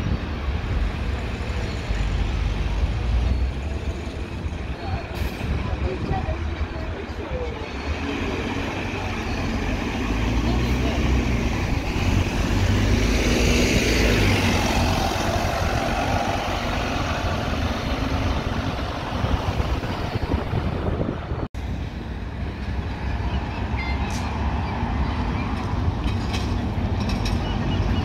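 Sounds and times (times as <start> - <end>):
bus approaching: 0.0 - 28.0
bus diesel engine running: 0.0 - 28.0
street traffic: 0.0 - 28.0.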